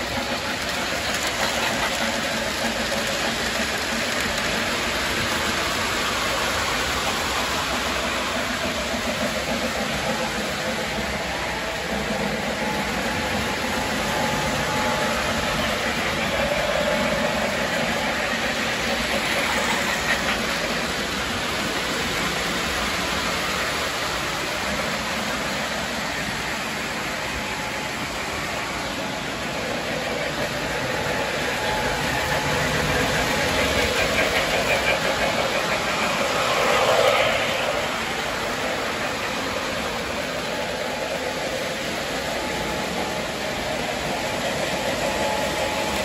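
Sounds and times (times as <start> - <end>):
model trains rumbling on track: 0.0 - 46.0.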